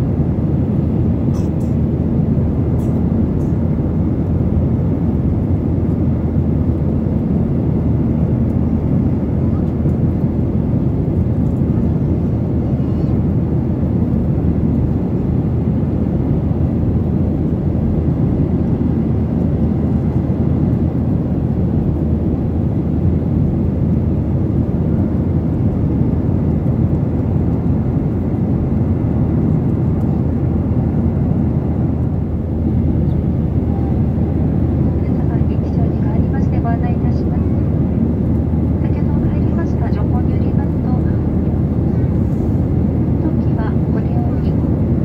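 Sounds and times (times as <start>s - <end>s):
airliner cabin engine noise: 0.0s - 45.0s.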